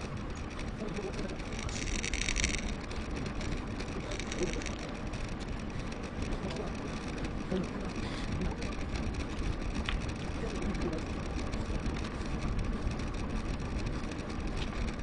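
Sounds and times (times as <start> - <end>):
bike tyre rolling noise: 0.0 - 15.0.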